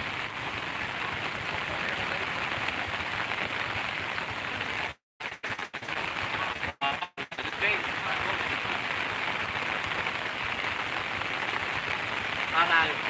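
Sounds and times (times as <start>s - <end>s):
floodwater rushing: 0.0s - 5.0s, 5.9s - 13.0s
heavy rain: 0.0s - 13.0s.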